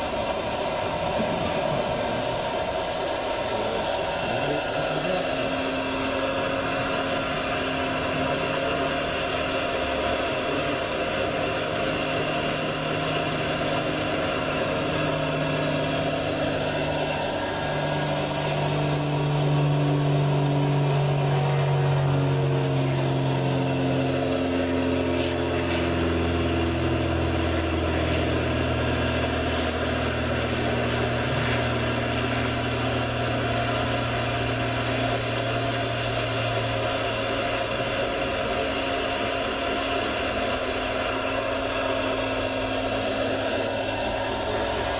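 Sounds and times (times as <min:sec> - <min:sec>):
model machinery motor running: 0:00.0 - 0:44.9.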